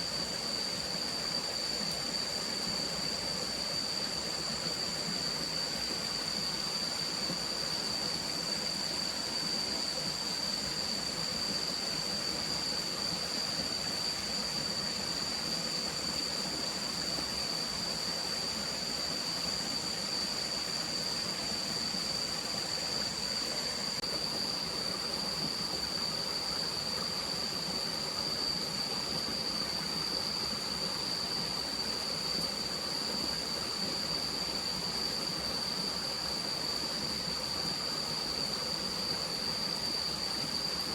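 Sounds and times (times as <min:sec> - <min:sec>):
constant high-pitched tone: 0:00.0 - 0:40.9.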